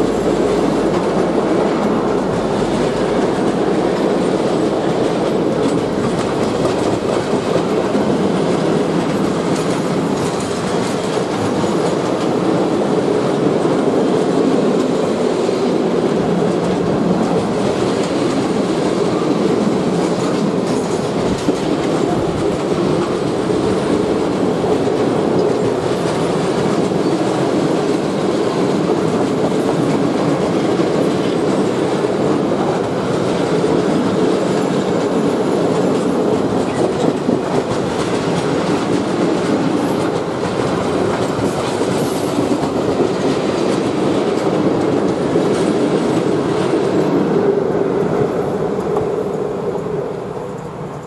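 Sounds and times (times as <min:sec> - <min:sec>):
freight train wheels rumbling: 0:00.0 - 0:51.0.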